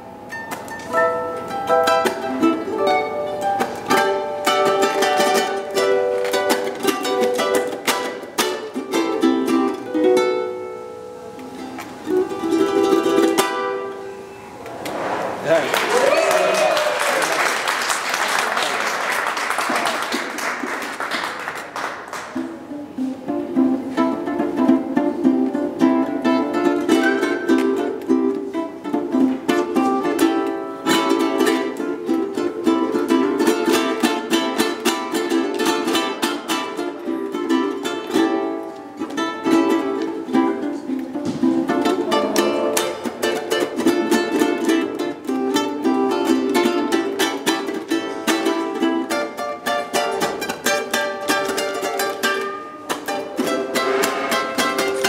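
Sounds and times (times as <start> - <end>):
ukulele plucking: 0.0 - 15.6, 20.1 - 55.0.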